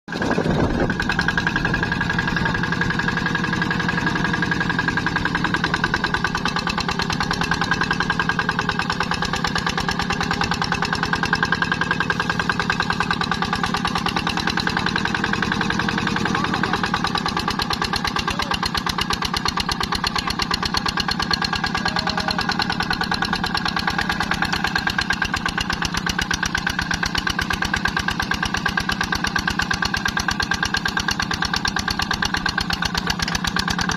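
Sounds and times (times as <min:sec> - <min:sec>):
engine running: 0:00.1 - 0:33.9.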